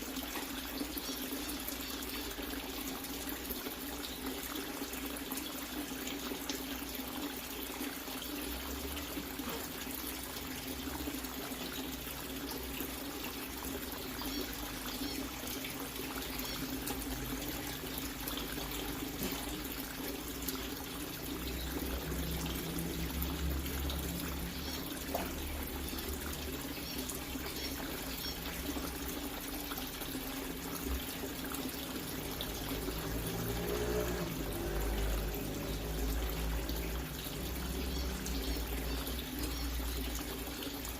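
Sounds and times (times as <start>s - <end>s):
water running into tank: 0.0s - 40.9s.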